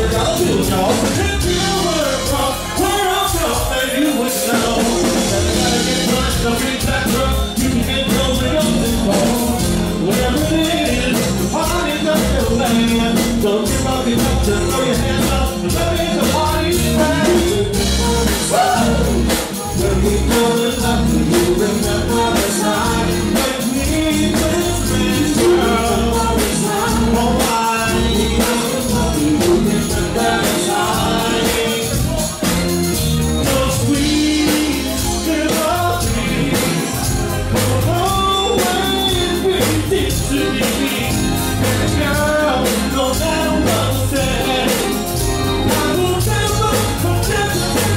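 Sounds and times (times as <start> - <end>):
congas: 0.0 - 47.9
live dance band playing: 0.0 - 47.9
person singing: 0.0 - 47.9.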